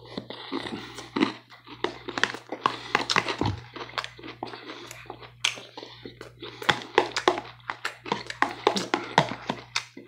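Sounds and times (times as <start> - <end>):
chewing and lip-smacking: 0.0 - 10.0
steady low hum: 0.0 - 10.0.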